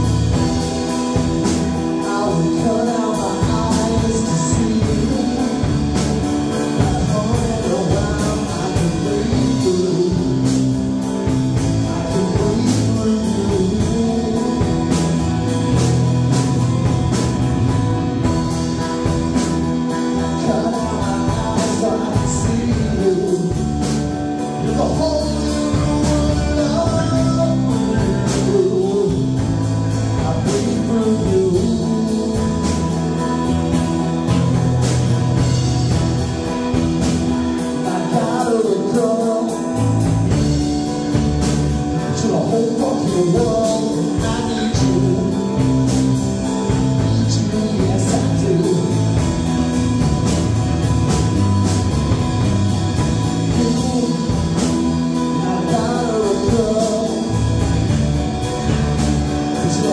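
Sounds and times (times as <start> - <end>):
drum kit and cymbals: 0.0 - 59.9
electric guitar: 0.0 - 59.9.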